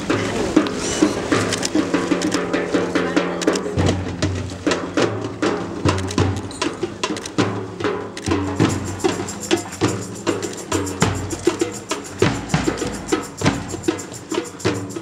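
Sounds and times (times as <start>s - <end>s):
hand drums and large drum: 0.0s - 15.0s.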